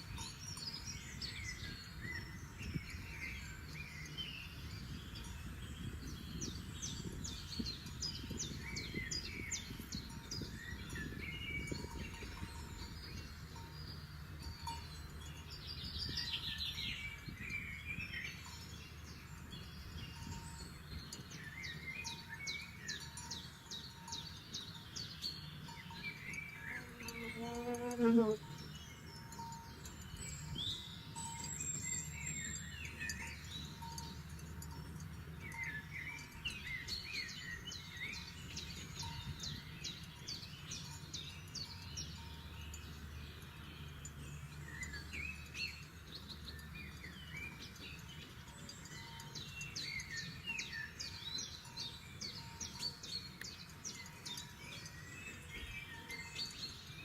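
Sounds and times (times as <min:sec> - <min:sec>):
forest birds chirping and trilling: 0:00.0 - 0:57.0.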